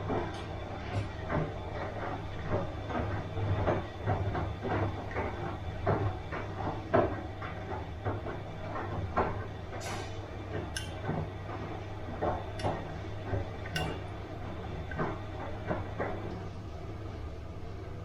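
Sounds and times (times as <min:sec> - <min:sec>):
drum swishing laundry: 0:00.0 - 0:18.0
washing machine motor hum: 0:00.0 - 0:18.0.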